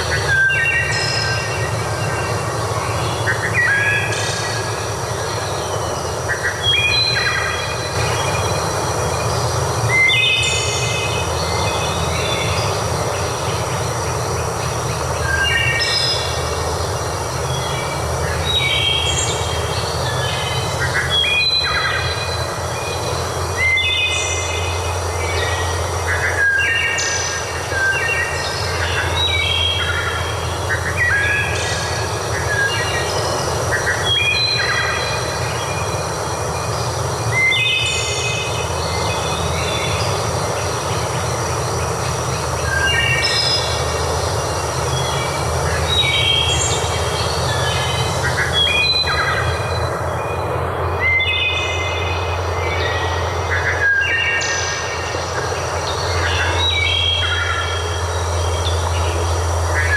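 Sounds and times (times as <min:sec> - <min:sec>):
rushing water: 0:06.2 - 0:59.9.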